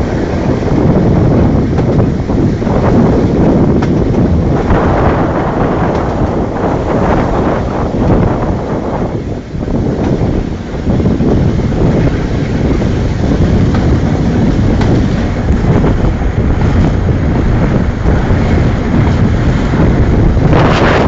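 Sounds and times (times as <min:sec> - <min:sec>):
moving train running noise: 0:00.0 - 0:21.0
wind buffeting microphone: 0:00.0 - 0:21.0.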